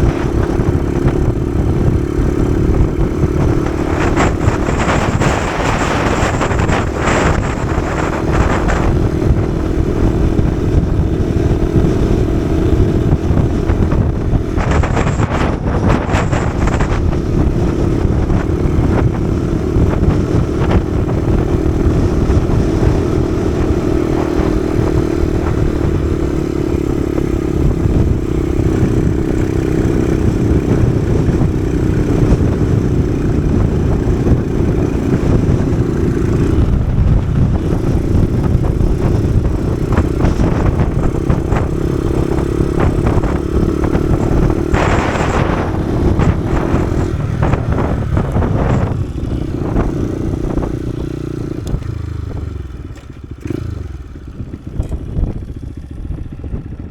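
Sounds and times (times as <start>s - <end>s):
motorcycle engine running: 0.0s - 56.9s
wind buffeting on microphone: 0.0s - 56.9s.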